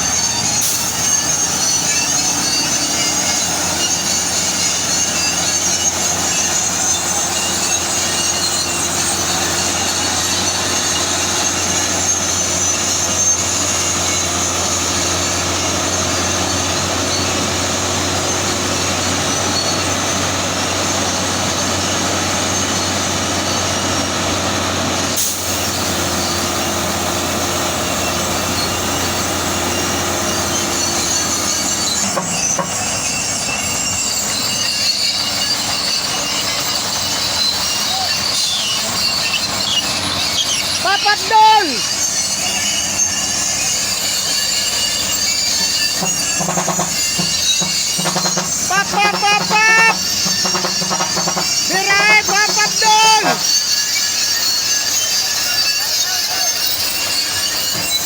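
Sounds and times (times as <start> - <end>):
high-pitched metallic squeal: 0.0 - 58.0
truck engine hum: 0.0 - 58.0.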